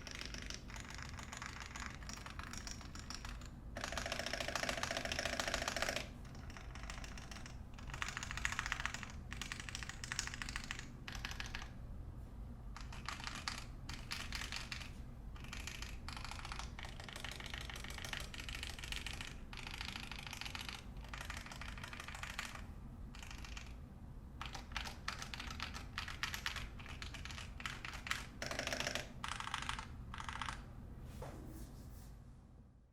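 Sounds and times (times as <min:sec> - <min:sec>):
typing on mechanical keyboard: 0:00.0 - 0:11.7, 0:12.8 - 0:23.8, 0:24.4 - 0:30.7.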